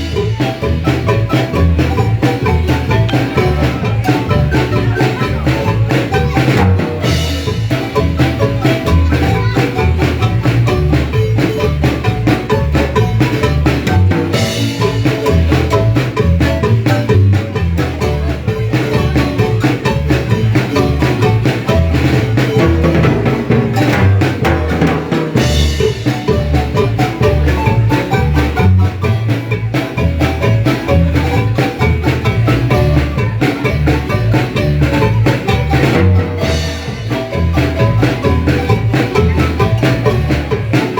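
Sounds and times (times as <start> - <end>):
marimba music: 0.0 - 40.9.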